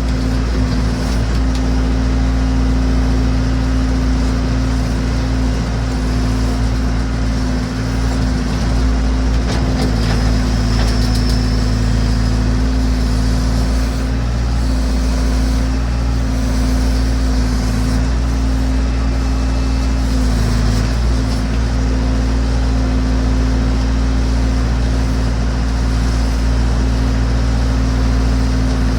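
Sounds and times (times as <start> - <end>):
backhoe engine running: 0.0 - 28.9.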